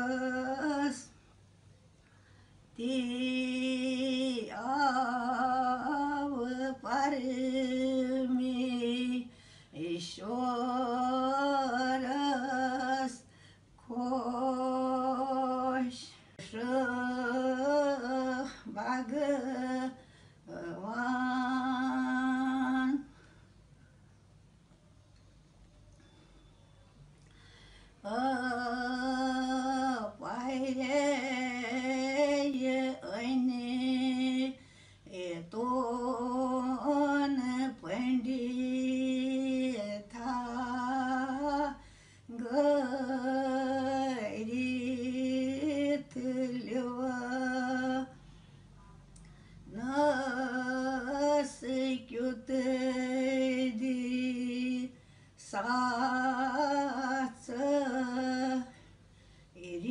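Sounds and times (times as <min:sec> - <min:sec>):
elderly woman singing unaccompanied: 0:00.0 - 0:01.2, 0:02.7 - 0:23.1, 0:28.0 - 0:48.2, 0:49.7 - 0:58.8, 0:59.6 - 0:59.9.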